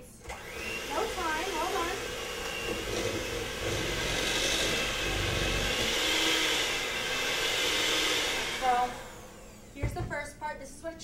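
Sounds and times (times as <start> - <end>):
electric hand mixer running: 0.2 - 9.9.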